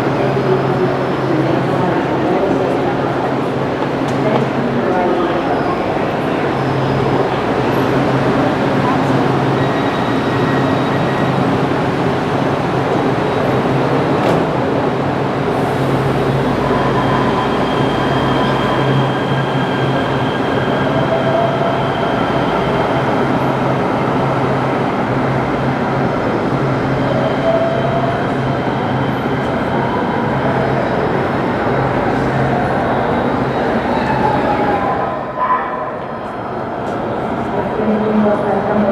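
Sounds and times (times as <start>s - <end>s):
train rumbling in tunnel: 0.0s - 38.9s.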